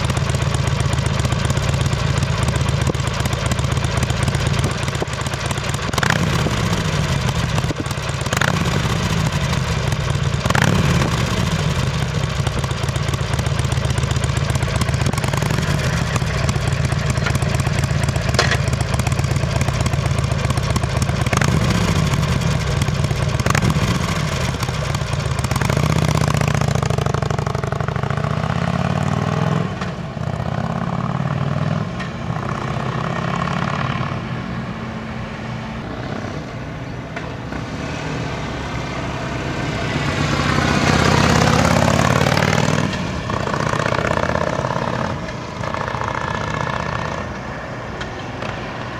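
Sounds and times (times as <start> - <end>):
motorcycle accelerating away: 0.0 - 34.9, 37.5 - 47.5
motorcycle engine idling and revving: 0.0 - 48.9.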